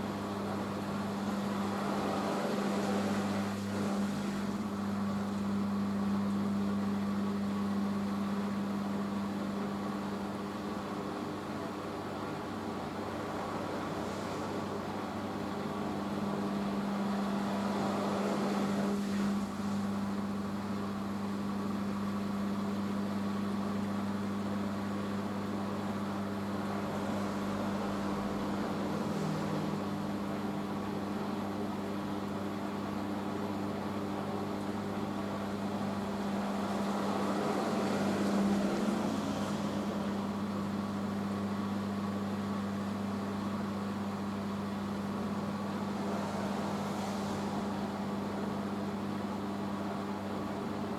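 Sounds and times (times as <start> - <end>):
washing machine spinning: 0.0 - 50.9.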